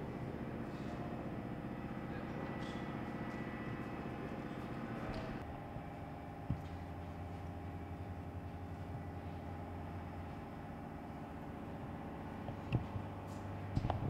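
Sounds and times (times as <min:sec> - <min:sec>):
machine droning: 0:00.0 - 0:14.0.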